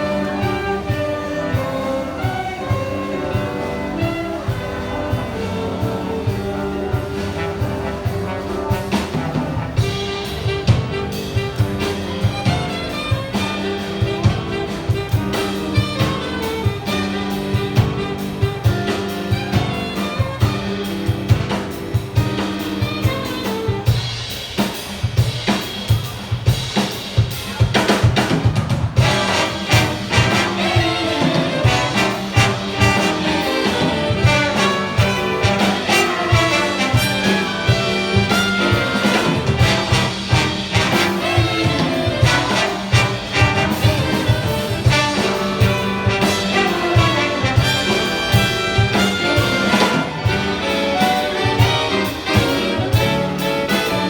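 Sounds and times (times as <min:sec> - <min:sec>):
big band playing jazz: 0:00.0 - 0:54.0.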